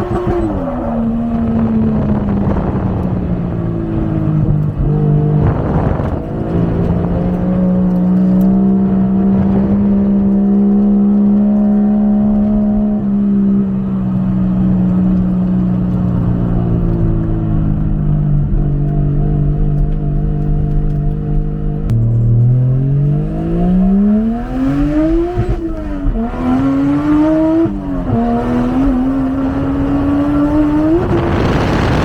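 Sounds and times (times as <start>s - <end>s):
car engine revving under load: 0.0s - 32.0s.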